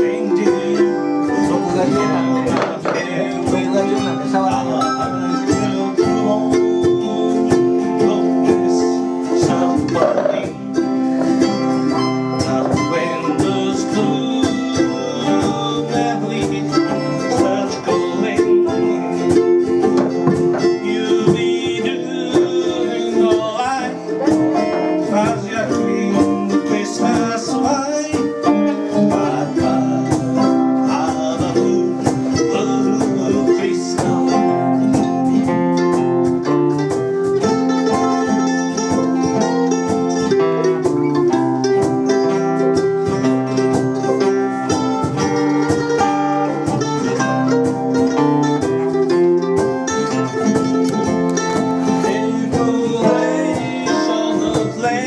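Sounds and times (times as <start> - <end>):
person singing: 0.0 - 55.0
plucked string instruments: 0.0 - 55.0.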